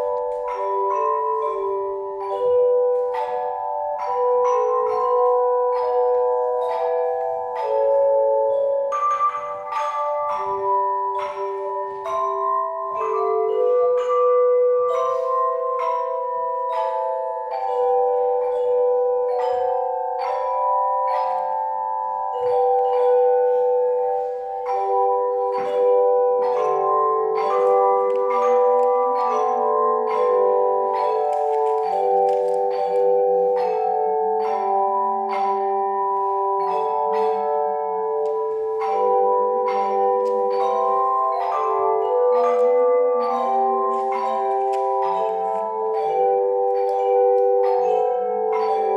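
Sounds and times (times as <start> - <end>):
tone chimes playing a hymn: 0.0 - 48.9.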